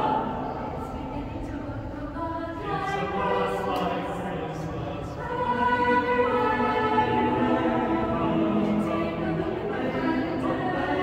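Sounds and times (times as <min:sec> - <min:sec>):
mixed choir singing: 0:00.0 - 0:11.0.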